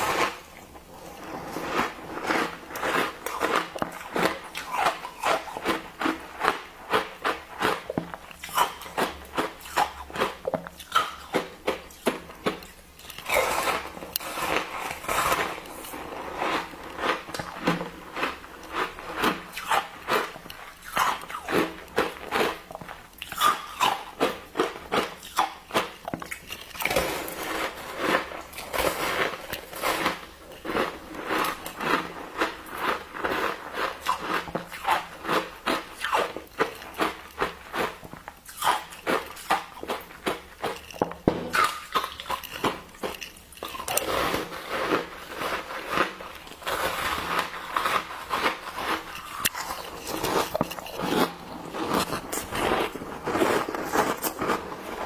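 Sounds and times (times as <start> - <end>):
crunching ice being chewed: 0.0 - 55.0.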